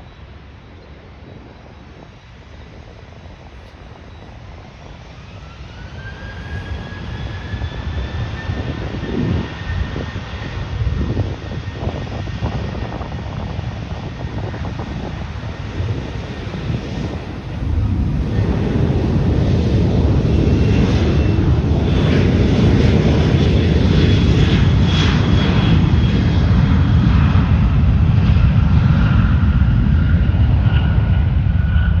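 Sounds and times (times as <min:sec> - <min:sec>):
jet engines rumbling: 0:00.0 - 0:32.0
thin jet engine whine: 0:00.0 - 0:32.0.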